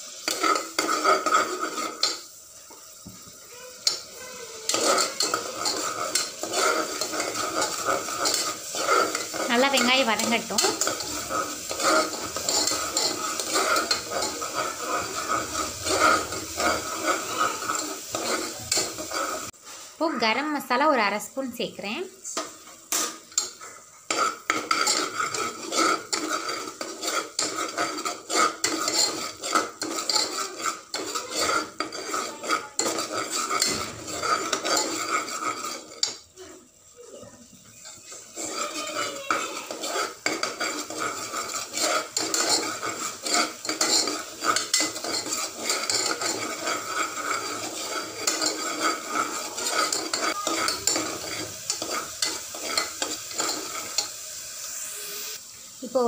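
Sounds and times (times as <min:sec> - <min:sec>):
ladle scraping metal pot: 0:00.0 - 0:02.3, 0:03.7 - 0:19.6, 0:22.3 - 0:36.2, 0:37.6 - 0:54.2
frying sizzle: 0:00.0 - 0:56.0.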